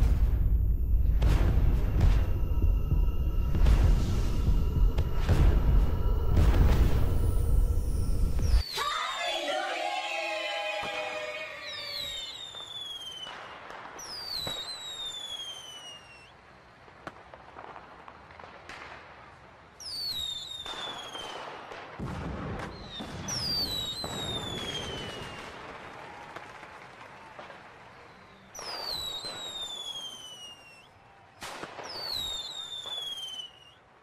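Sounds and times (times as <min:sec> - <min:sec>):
firework cracks and crackling: 0:00.0 - 0:08.9, 0:10.8 - 0:34.0
falling firework whistles: 0:00.0 - 0:09.6, 0:10.5 - 0:18.8, 0:19.8 - 0:33.9.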